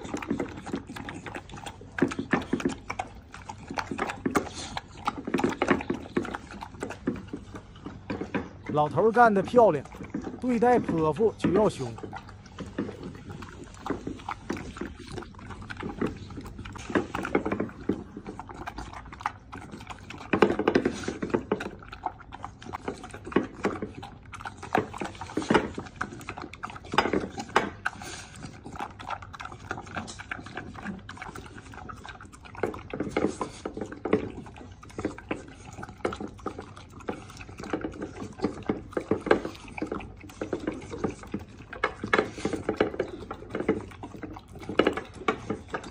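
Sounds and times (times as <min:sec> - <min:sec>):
dog chewing and slurping: 0:00.0 - 0:45.9.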